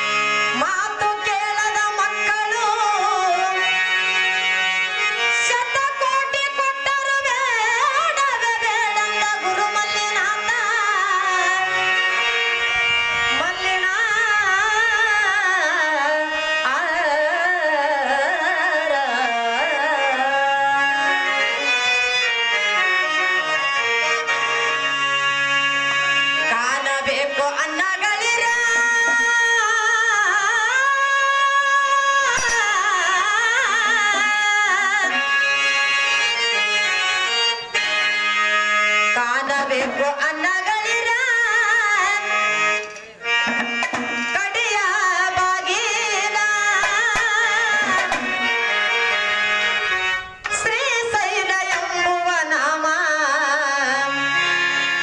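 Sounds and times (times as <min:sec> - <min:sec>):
harmonium: 0:00.0 - 0:55.0
person singing devotional song: 0:00.0 - 0:55.0
tabla: 0:00.0 - 0:55.0.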